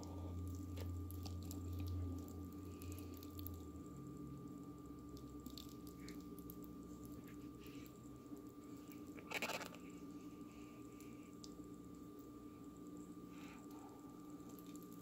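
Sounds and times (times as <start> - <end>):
soft squishing of sticky pasta: 0.0 - 15.0
steady low hum: 0.0 - 15.0.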